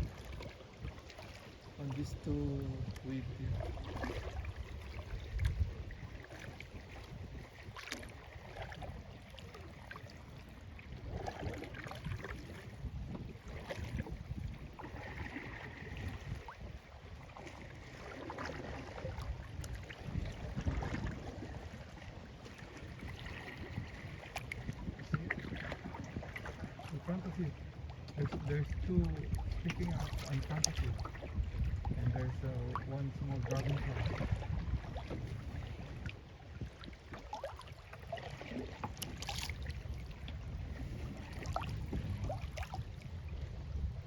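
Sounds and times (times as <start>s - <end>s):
water splashing against kayak hull: 0.0s - 44.0s
wind rumbling on microphone: 0.0s - 44.0s.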